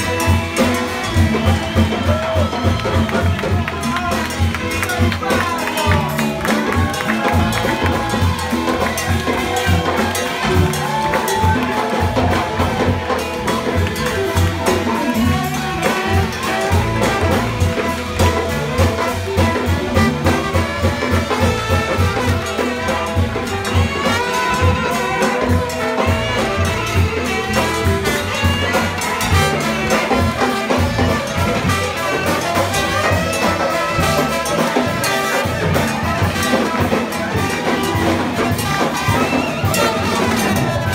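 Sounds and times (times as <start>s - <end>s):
cowbell and hand percussion: 0.0s - 40.9s
drum kit: 0.0s - 40.9s
piano: 0.0s - 40.9s
tenor saxophone: 0.0s - 40.9s
trombone: 0.0s - 40.9s
upright bass: 0.0s - 40.9s.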